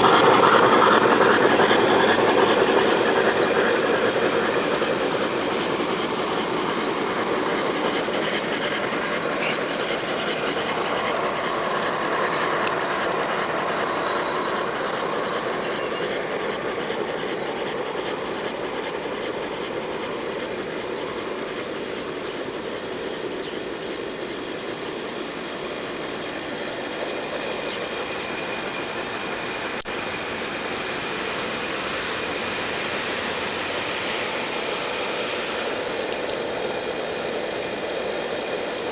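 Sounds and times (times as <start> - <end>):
model train wheels clicking on rails: 0.0 - 38.9.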